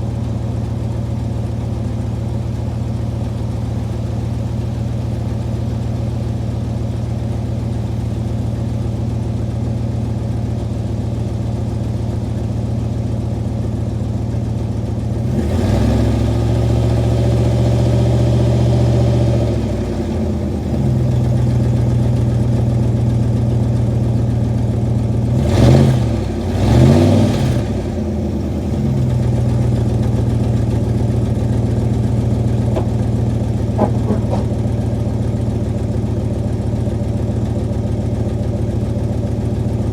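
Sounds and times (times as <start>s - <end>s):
pickup engine idling and revving: 0.0s - 39.9s.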